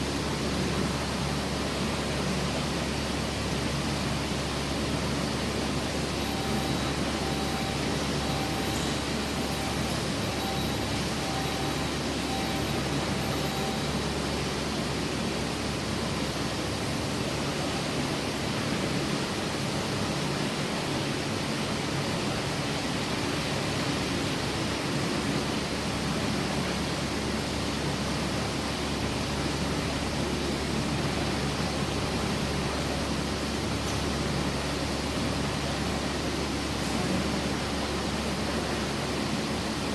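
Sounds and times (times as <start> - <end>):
steady machinery noise: 0.0 - 39.9.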